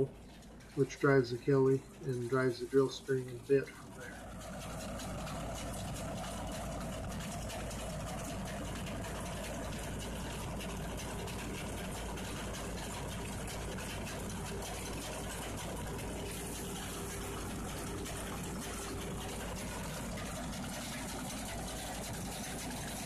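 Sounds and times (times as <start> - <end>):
drill rig engine and machinery: 0.0 - 23.0.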